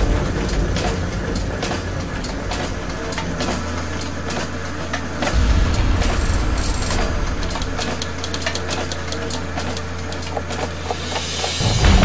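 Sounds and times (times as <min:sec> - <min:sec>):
metallic clicks and clanks: 0:00.0 - 0:11.8
low machine rumble: 0:00.0 - 0:12.0.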